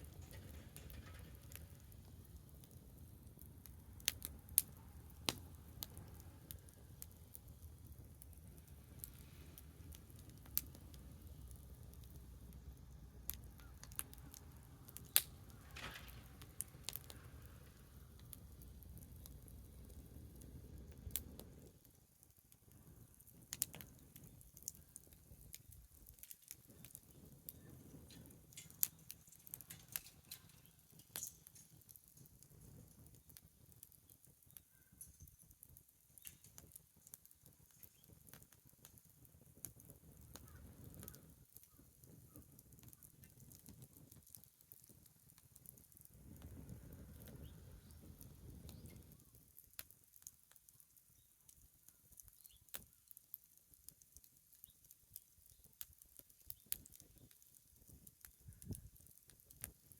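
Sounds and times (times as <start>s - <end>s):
wood bonfire crackling: 0.0s - 59.9s.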